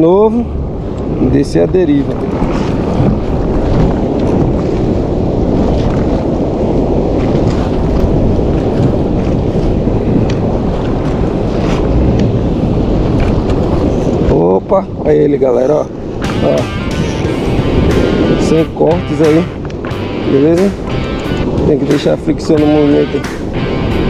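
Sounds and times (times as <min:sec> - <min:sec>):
wind buffeting microphone: 0:00.0 - 0:24.0
water splashing against kayak hull: 0:00.4 - 0:15.0, 0:15.9 - 0:24.0.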